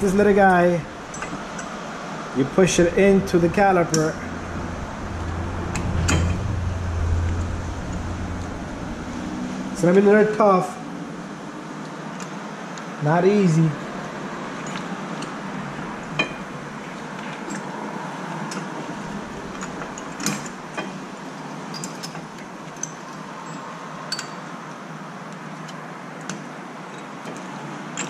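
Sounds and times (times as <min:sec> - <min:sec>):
steady background hum: 0:00.0 - 0:22.8.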